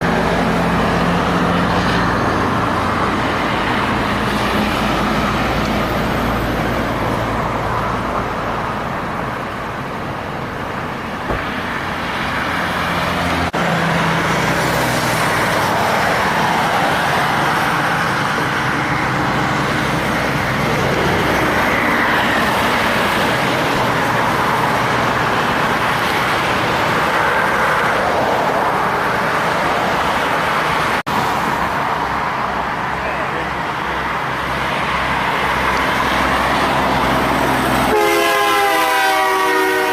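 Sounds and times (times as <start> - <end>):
diesel trucks passing: 0.0 - 39.9
tyre and road noise: 0.0 - 39.9.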